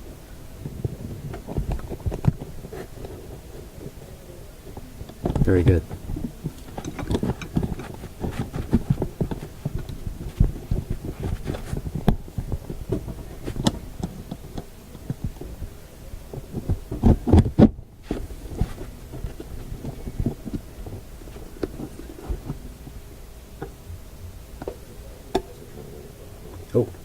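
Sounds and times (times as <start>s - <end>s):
hands knocking and rubbing parts: 0.0s - 23.0s.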